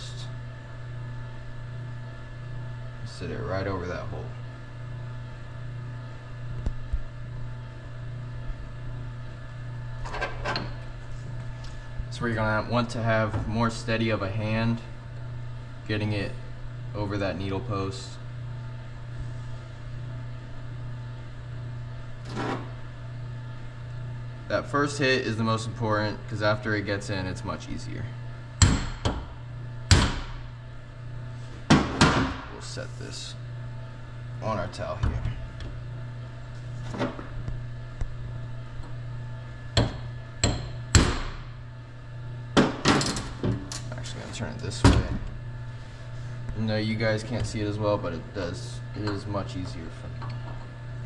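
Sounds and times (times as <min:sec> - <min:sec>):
workshop background hum: 0:00.0 - 0:51.0.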